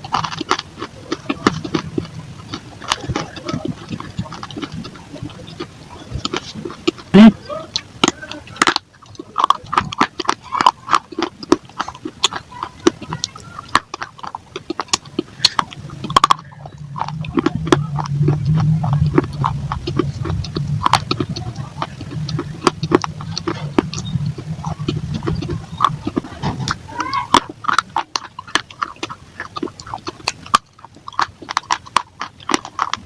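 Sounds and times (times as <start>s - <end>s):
dry clay crunching: 0.0s - 33.0s
steady low hum: 0.0s - 33.0s.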